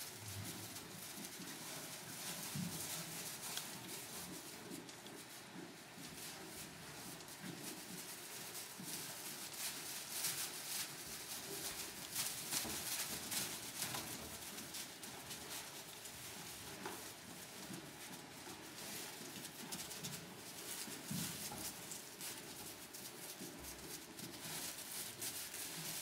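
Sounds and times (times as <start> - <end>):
lamb hooves pattering in straw: 0.0 - 26.0.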